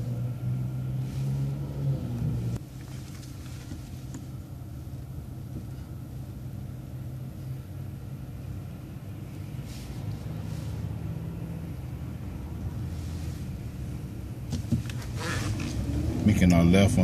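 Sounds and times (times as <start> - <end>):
vehicle rumble from inside: 0.0 - 17.0.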